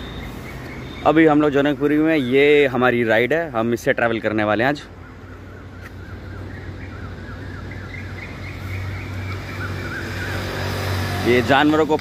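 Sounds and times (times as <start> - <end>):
bird chirping: 0.0 - 11.5.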